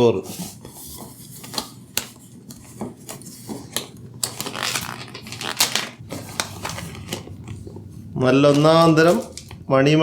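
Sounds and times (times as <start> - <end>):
food containers clicking and crinkling: 1.4 - 9.6.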